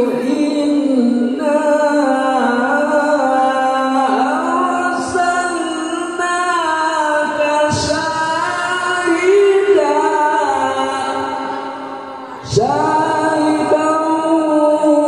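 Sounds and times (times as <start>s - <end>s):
male voice chanting into microphone: 0.0s - 15.0s.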